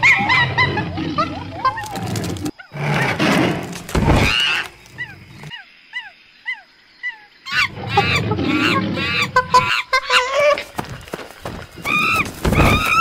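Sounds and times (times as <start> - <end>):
wild animal harsh calls: 0.0 - 10.6.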